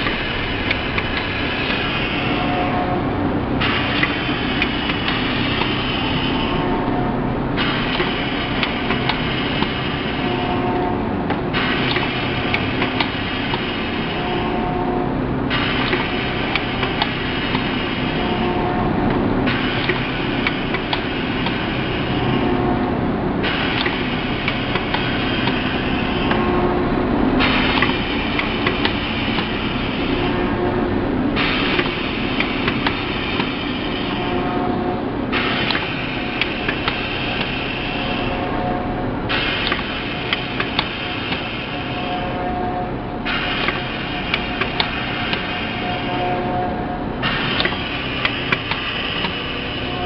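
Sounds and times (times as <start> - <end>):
machine hiss: 0.0 - 7.0, 7.6 - 50.0
machine humming: 0.0 - 50.0.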